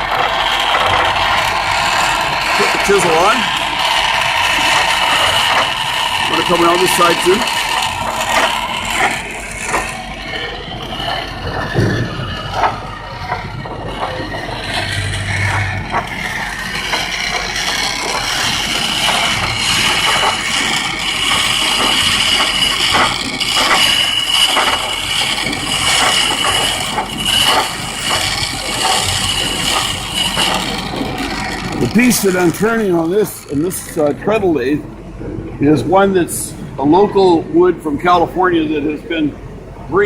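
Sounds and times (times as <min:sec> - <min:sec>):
chisel scraping wood on lathe: 0:00.0 - 0:33.8.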